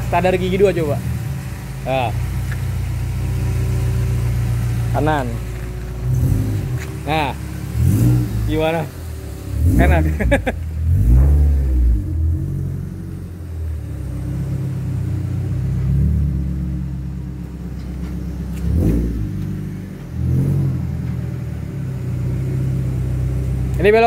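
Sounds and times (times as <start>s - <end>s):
car engine revving: 0.0s - 24.0s
car engine running low speed: 0.0s - 24.0s.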